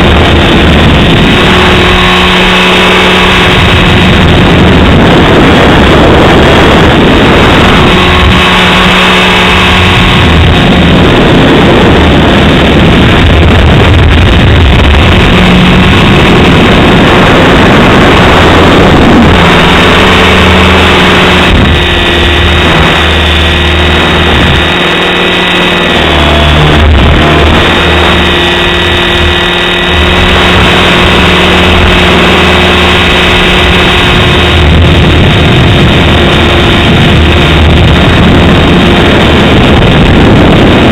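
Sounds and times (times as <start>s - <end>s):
rc helicopter whine: 0.0s - 40.9s
wind rumble on microphone: 0.0s - 40.9s.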